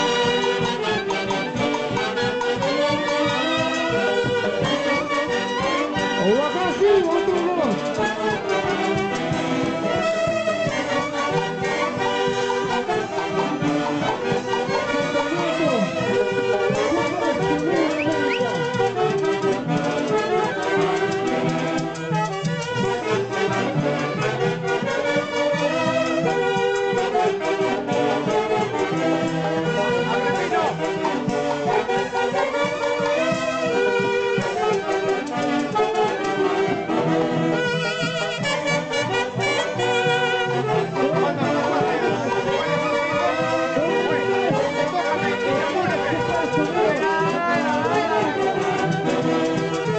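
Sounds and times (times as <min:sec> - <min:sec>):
wind instruments playing in harmony: 0:00.0 - 0:49.9.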